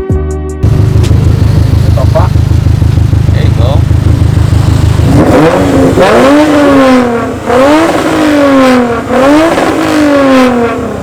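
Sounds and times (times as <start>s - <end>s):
car engine revving: 0.6s - 11.0s.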